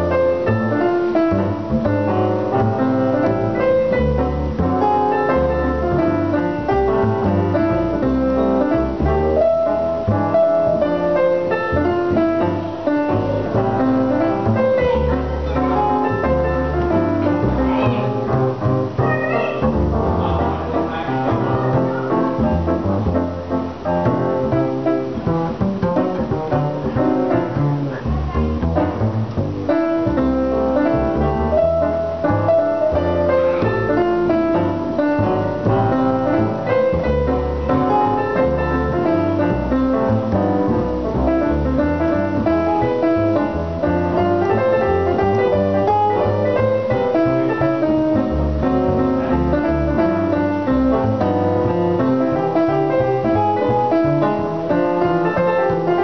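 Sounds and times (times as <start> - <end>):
digital piano: 0.0 - 56.0
plucked double bass: 0.0 - 56.0.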